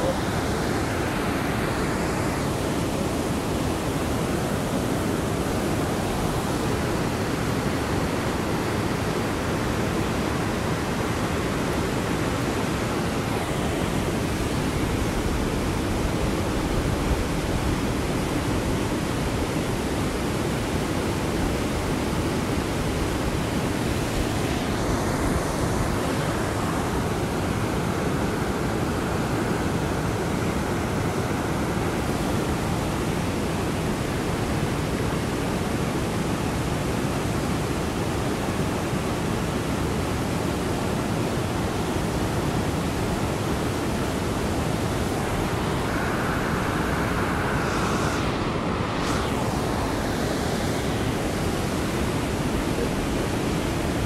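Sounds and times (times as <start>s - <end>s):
river rushing through rapids: 0.0s - 54.0s.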